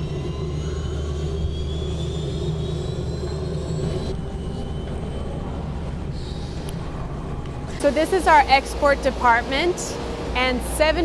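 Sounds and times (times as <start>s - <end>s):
helicopter low rumble: 0.0s - 11.0s
thin high whine: 0.0s - 11.0s.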